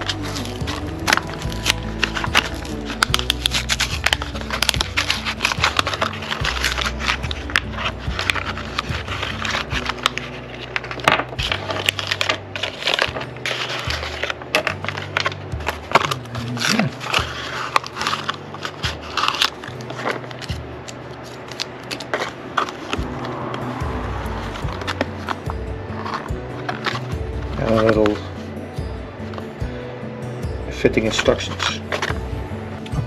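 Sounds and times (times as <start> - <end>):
background music with bass line: 0.0 - 21.0, 22.9 - 33.0
packaging being torn and crinkled: 0.0 - 23.6, 24.4 - 28.2.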